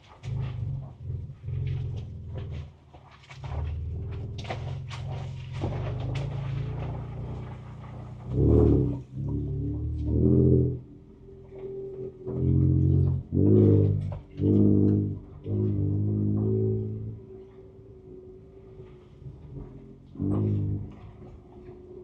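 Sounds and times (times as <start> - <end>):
engine revving from inside cab: 0.0 - 22.0.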